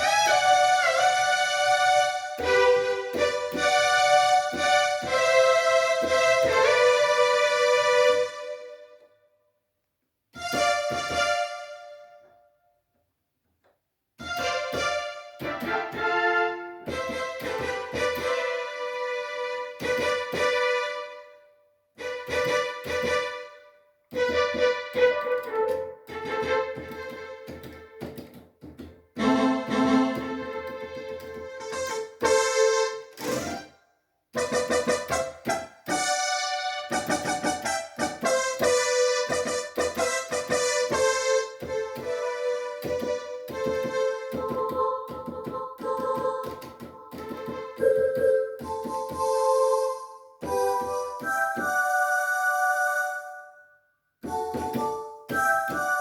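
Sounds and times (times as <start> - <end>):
electronic keyboard melody: 0.0 - 9.2, 10.4 - 12.6, 14.2 - 33.8, 34.4 - 56.0.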